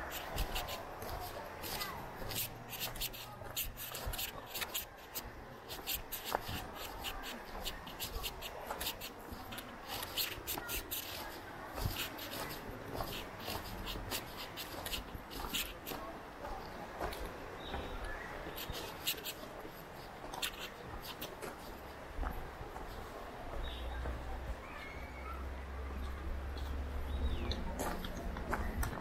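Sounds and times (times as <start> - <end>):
crunching footsteps: 0.0 - 24.2, 25.9 - 29.0.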